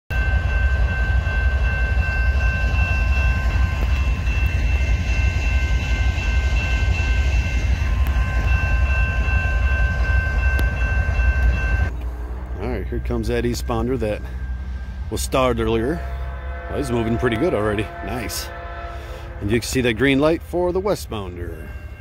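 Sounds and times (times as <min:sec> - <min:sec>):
diesel locomotives rumbling past: 0:00.1 - 0:22.0
steady high tones: 0:00.1 - 0:22.0.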